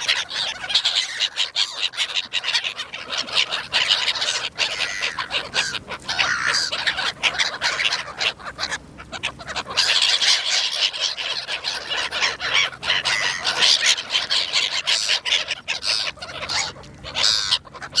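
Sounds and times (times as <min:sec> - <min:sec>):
gulls calling and squawking: 0:00.0 - 0:18.0.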